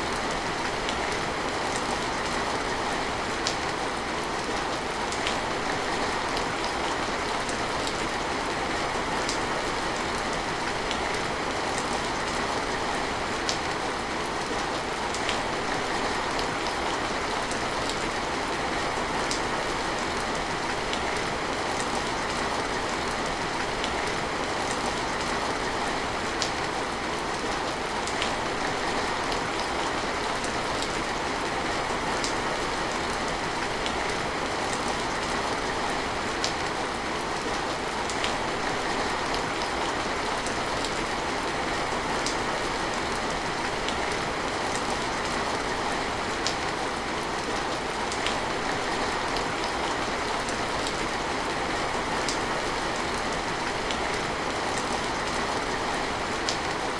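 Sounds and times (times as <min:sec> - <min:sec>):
steady rain patter: 0:00.0 - 0:56.9.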